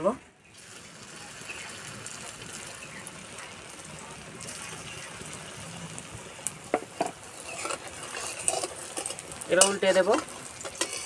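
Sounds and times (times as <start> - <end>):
patties sizzling in oil: 0.4 - 11.0.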